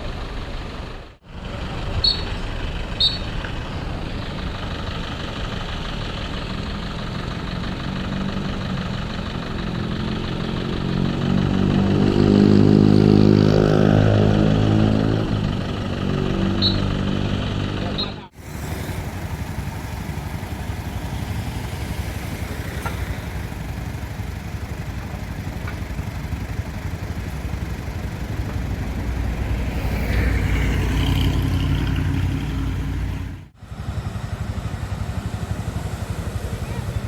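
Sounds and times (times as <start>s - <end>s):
road noise: 0.0s - 37.0s
vehicle engine: 0.0s - 37.0s.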